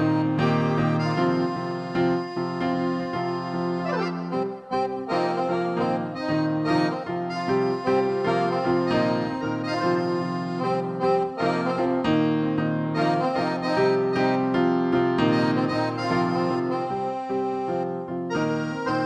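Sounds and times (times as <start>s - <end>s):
instrumental background music: 0.0s - 19.0s.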